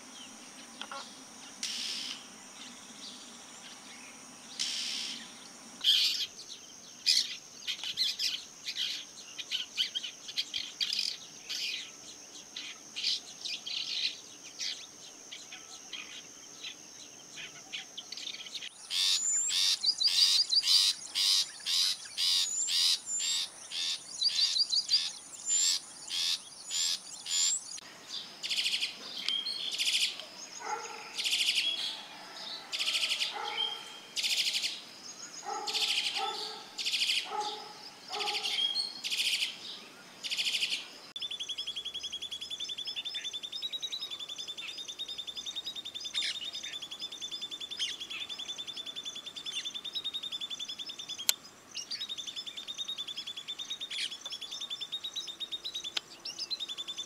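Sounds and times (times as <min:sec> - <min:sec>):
steady high insect-like tone: 0:00.0 - 0:57.0.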